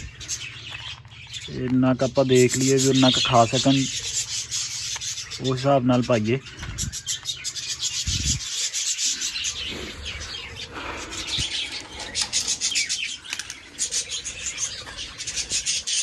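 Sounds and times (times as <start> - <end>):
budgerigars chirping: 0.0 - 16.0.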